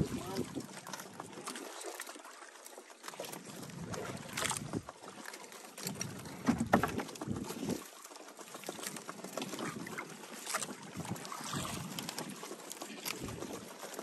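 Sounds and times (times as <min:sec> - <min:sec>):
water lapping around boat: 0:00.0 - 0:14.0.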